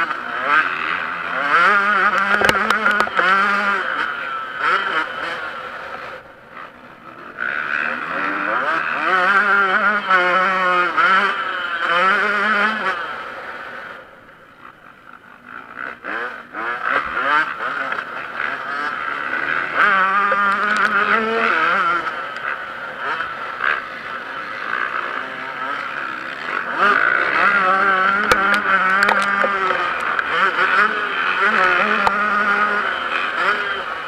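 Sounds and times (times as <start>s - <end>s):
motocross engine revving: 0.0s - 34.0s.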